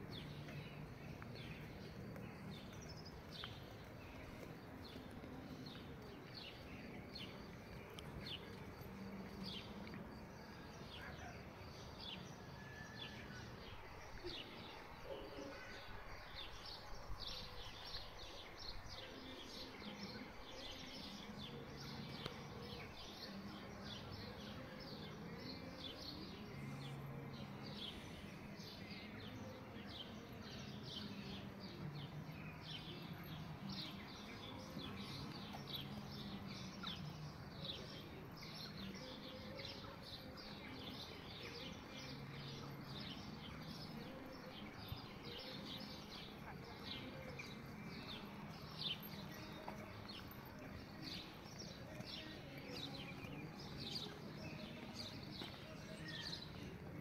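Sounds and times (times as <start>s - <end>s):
faint outdoor background noise: 0.0s - 57.0s
small birds chirping: 0.0s - 57.0s.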